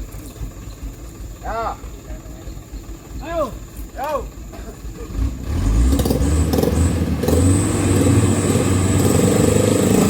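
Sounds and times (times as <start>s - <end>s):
truck diesel engine revving: 0.0s - 10.0s.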